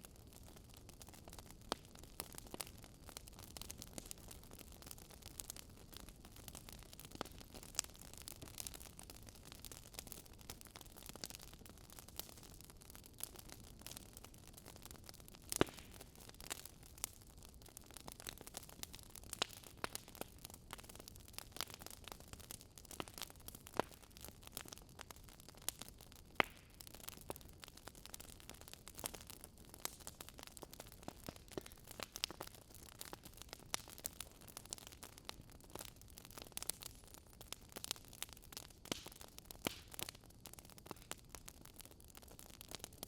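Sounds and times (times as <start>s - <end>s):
soft steady fire hiss: 0.0s - 43.0s
wood logs crackling and popping: 0.0s - 43.0s.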